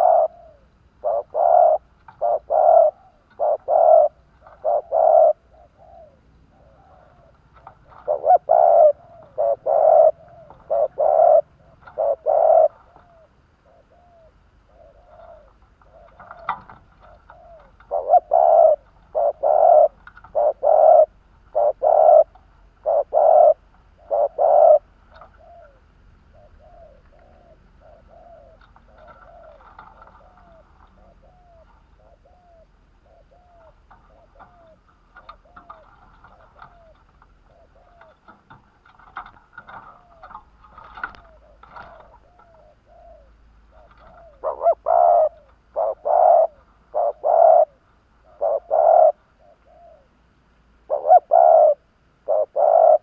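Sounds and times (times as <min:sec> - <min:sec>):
dove cooing: 0:00.0 - 0:50.2, 0:50.8 - 0:53.0.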